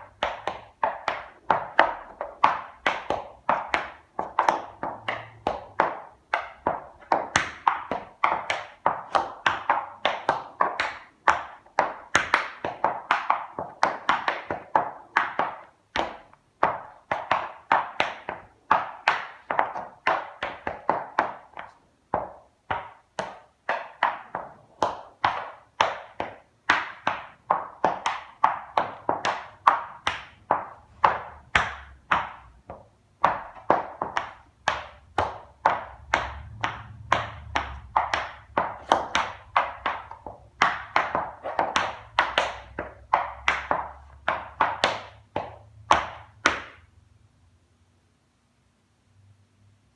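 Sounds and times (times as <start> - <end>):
tap shoes on wooden board: 0.0 - 46.9.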